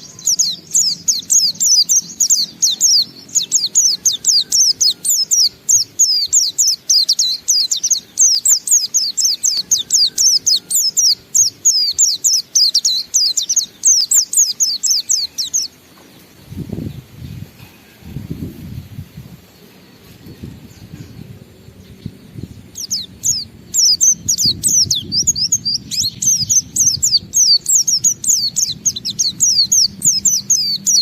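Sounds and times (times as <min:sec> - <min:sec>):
bird singing high sliding chirps: 0:00.0 - 0:31.0.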